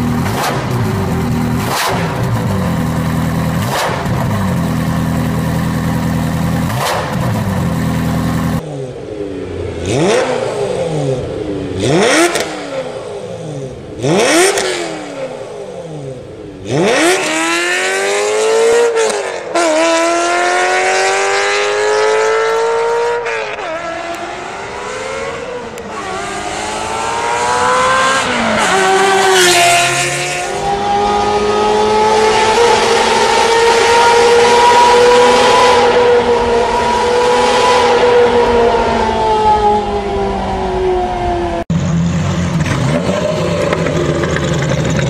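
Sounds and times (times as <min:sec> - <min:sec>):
sports car engine accelerating: 0:00.0 - 0:45.0.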